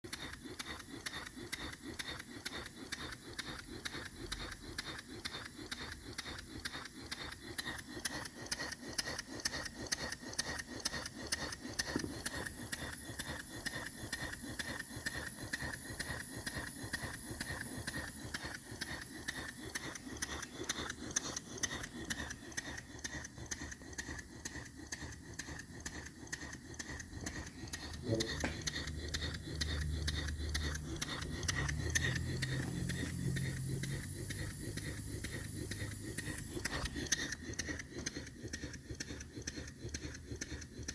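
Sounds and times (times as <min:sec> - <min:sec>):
steam engine ticking rattle: 0:00.0 - 0:40.9.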